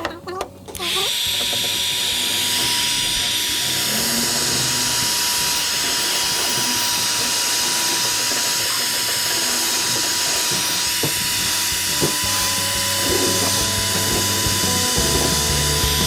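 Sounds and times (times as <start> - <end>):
power tool running: 0.7 - 16.0.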